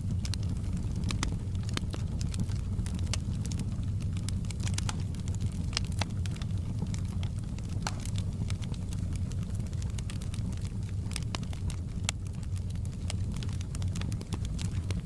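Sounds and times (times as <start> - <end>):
wood fire crackling and roaring: 0.0 - 15.0.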